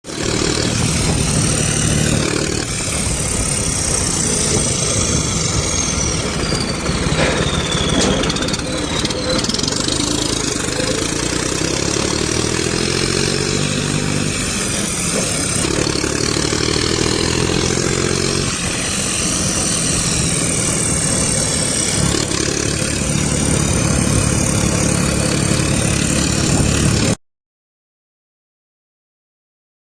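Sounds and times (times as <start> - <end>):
unmuffled tractor engine revving: 0.0 - 27.2.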